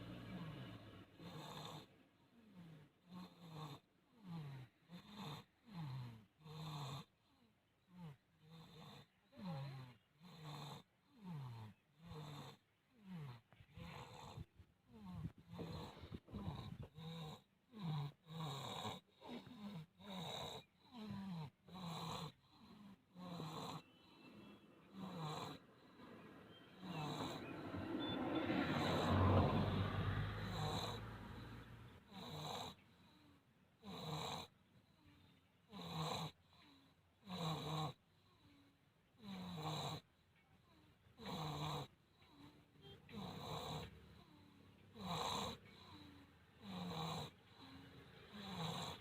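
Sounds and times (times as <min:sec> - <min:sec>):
rhythmic snoring: 0:00.0 - 0:49.0.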